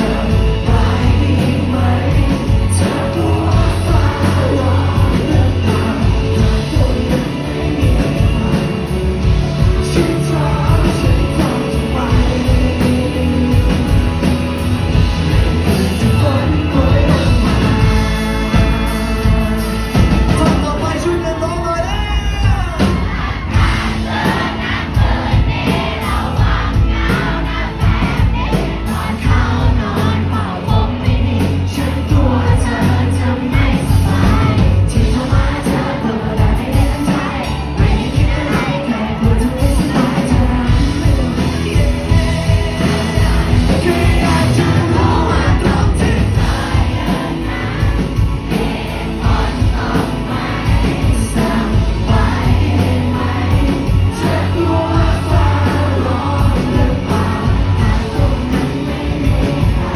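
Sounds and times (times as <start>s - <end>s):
crowd singing and shouting: 0.0s - 59.9s
heavy bass line: 0.0s - 59.9s
lead vocal singing: 0.0s - 59.9s
live pop-rock band: 0.0s - 59.9s.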